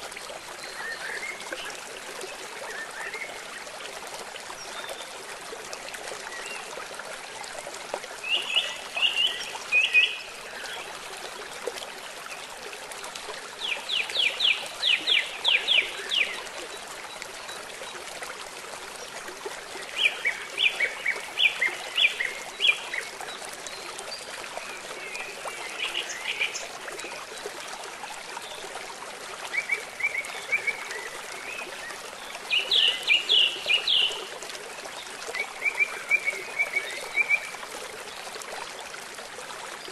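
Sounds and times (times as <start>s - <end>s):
flowing river water: 0.0s - 39.9s
rain: 0.0s - 39.9s.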